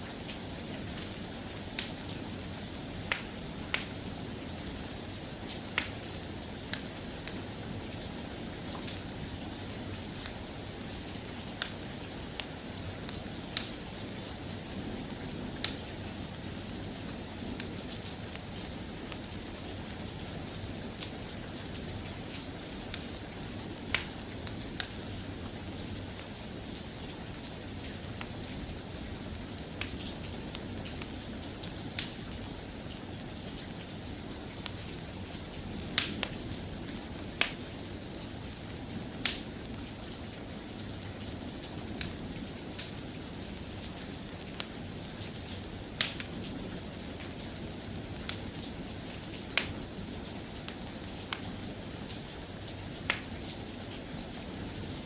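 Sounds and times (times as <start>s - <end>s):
soft rain: 0.0s - 55.0s.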